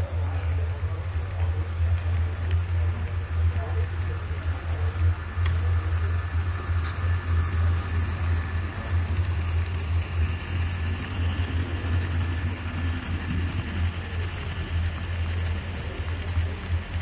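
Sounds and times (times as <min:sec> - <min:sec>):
low hum: 0:00.0 - 0:17.0
model train wheels rattling: 0:00.0 - 0:17.0.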